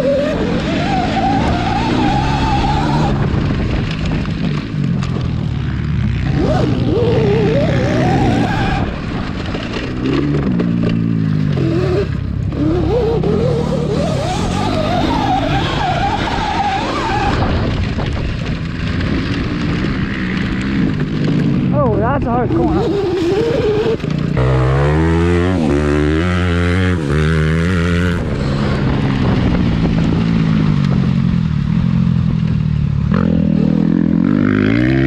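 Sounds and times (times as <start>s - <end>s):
dirt bike engine revving: 0.0s - 35.0s
rushing wind: 0.0s - 35.0s.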